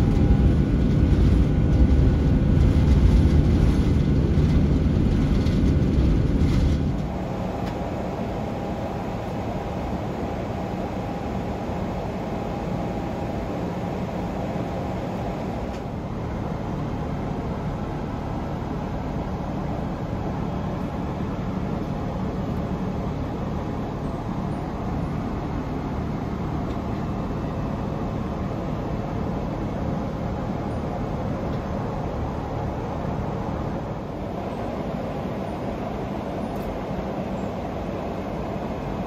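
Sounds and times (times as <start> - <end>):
airplane cabin rumble: 0.0 - 39.0.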